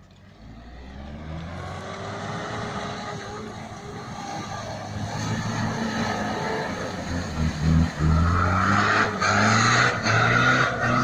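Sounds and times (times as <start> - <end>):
engine revving hard: 0.9 - 11.0.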